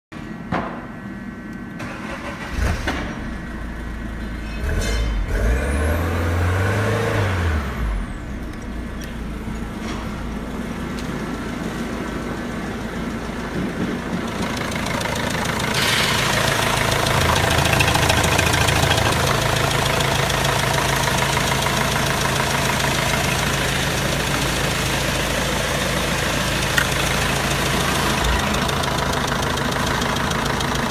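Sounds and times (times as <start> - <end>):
diesel engine starting and idling: 1.3 - 30.9.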